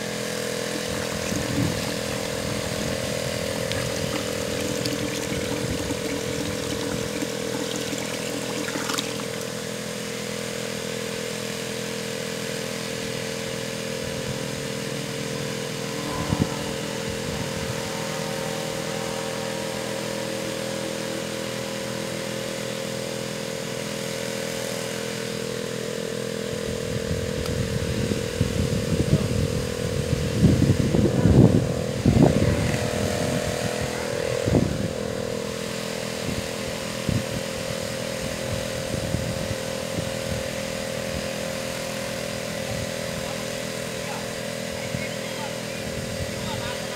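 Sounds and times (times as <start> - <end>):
small boat engine running: 0.0 - 46.9.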